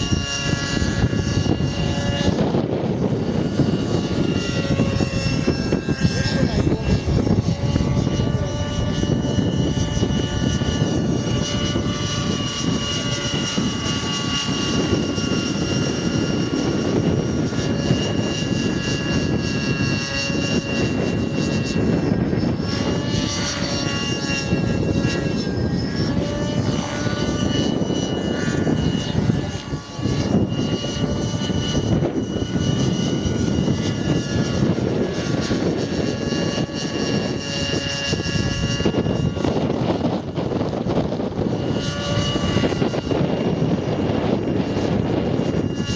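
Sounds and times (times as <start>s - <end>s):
model helicopter engine whine: 0.0s - 45.9s.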